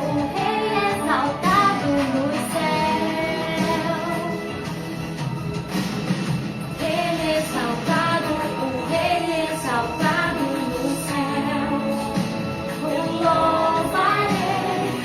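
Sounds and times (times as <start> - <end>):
woman singing worship song: 0.0 - 4.6, 6.8 - 15.0.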